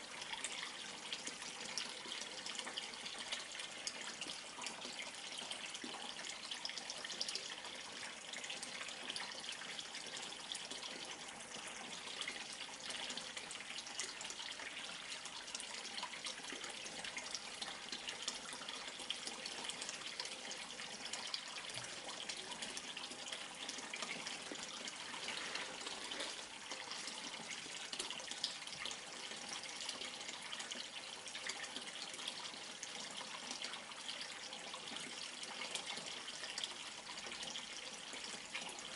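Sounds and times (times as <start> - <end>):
water pouring into pond: 0.0 - 38.9.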